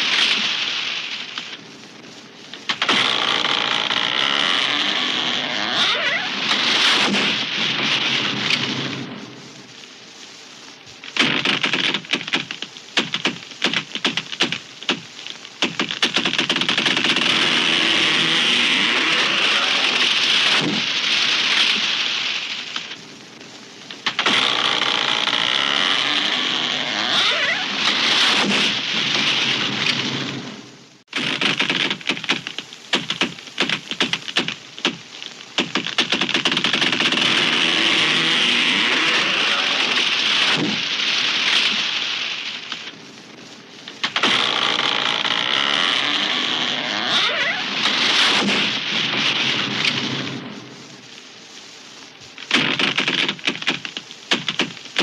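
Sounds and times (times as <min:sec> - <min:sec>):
branches rustling: 0:00.0 - 0:55.0
branches and leaves breaking: 0:02.5 - 0:09.2, 0:11.0 - 0:23.0, 0:23.9 - 0:43.0, 0:43.8 - 0:50.6
tree crashing down: 0:02.5 - 0:09.5, 0:10.9 - 0:43.1, 0:43.8 - 0:51.1.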